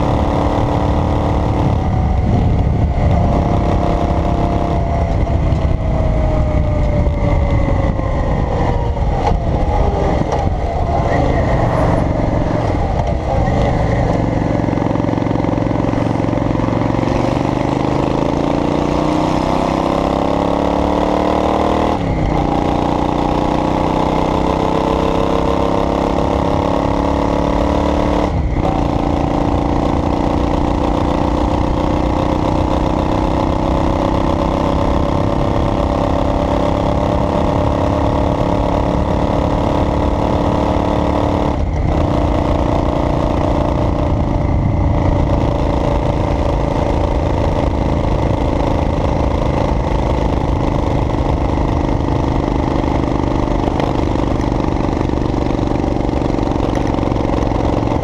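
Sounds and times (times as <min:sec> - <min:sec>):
vehicle engine accelerating: 0:00.0 - 0:58.0.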